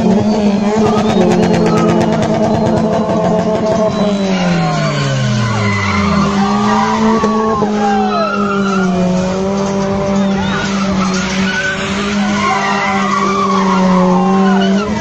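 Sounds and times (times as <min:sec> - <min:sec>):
car engine at high revs: 0:00.0 - 0:15.0
engine note sliding down in pitch: 0:00.0 - 0:15.0
tyres squealing on tarmac: 0:00.0 - 0:15.0.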